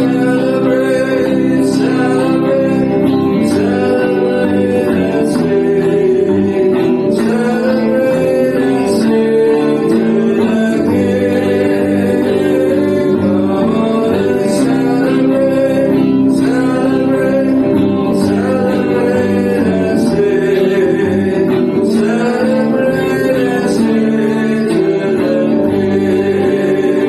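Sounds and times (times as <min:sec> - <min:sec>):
person singing gospel song: 0:00.0 - 0:27.0
strummed guitar: 0:00.0 - 0:27.0.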